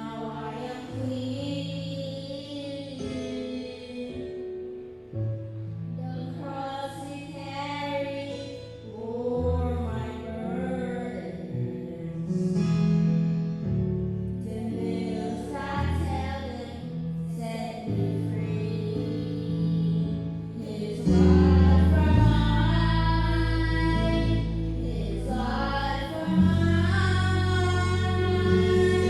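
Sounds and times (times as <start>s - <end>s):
accompaniment with held bass notes: 0.0s - 29.0s.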